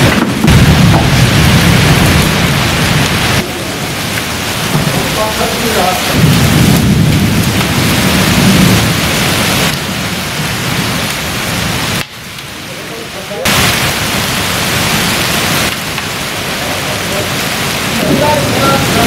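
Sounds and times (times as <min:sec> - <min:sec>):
low thunder rumbling: 0:00.0 - 0:12.0, 0:13.5 - 0:19.0
heavy rain and hail on ground: 0:00.0 - 0:19.0.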